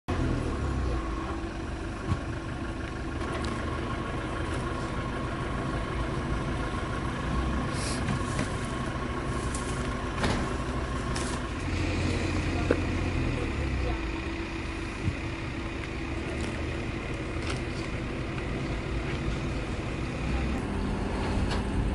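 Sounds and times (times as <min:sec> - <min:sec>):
vehicle idling rumble: 0:00.1 - 0:21.9.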